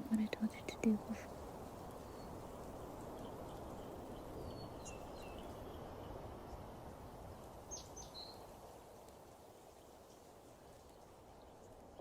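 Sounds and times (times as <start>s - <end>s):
low background rush: 0.0s - 12.0s
small birds chirping: 0.0s - 12.0s.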